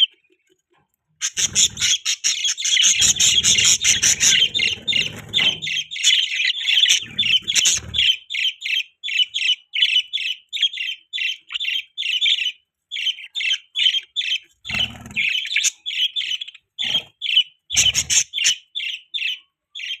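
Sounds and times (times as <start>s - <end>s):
budgerigars chirping: 1.2s - 20.0s.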